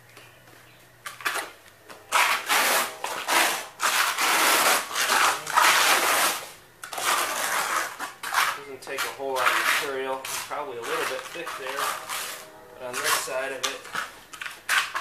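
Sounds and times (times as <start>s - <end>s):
trowel scraping wet cement: 2.1s - 15.0s.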